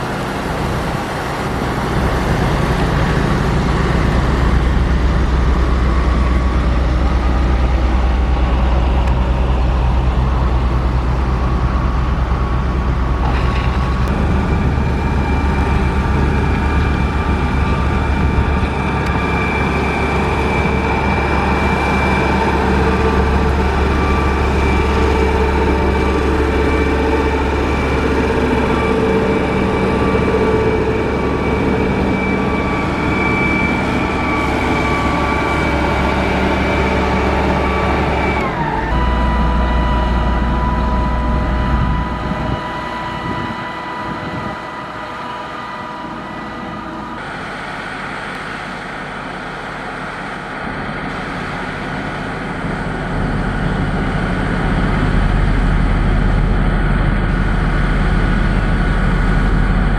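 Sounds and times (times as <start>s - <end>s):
heavy machine engines running: 0.0s - 59.9s.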